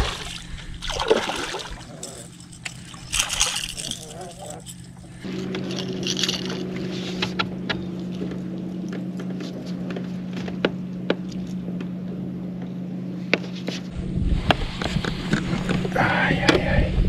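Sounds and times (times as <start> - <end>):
boat motor humming: 0.0 - 17.0
rough low rumble: 0.0 - 17.0.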